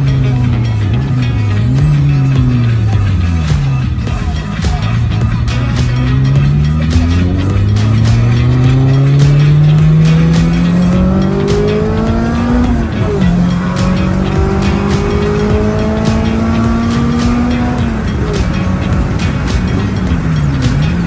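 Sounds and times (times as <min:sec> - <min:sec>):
car engine accelerating through gears: 0:00.0 - 0:04.2, 0:04.8 - 0:21.0.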